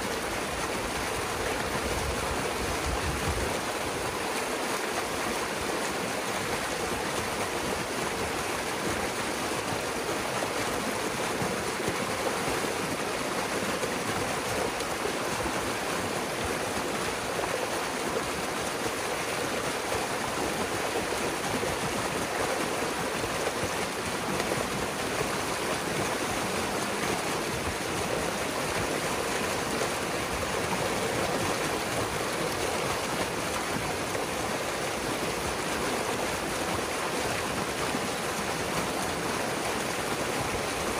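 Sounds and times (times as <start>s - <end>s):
water rushing through dam breach: 0.0s - 40.9s.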